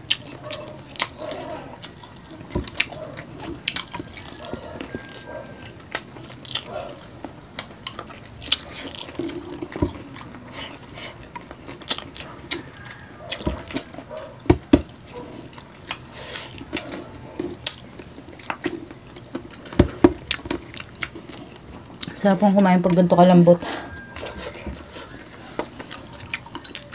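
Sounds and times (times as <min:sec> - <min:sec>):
wet chewing and sucking: 0:00.0 - 0:22.2, 0:23.8 - 0:26.9.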